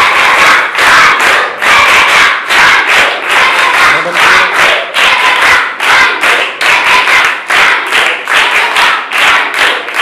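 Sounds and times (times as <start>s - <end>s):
children clapping in rhythm: 0.0s - 10.0s.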